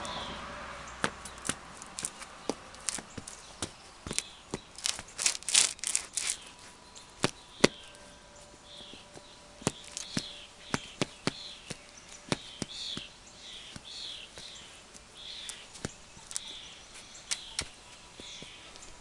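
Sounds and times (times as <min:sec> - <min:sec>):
shoes scraping on concrete: 0:00.0 - 0:19.0
shoe clicks on concrete: 0:01.0 - 0:06.5, 0:07.2 - 0:08.0, 0:08.8 - 0:19.0.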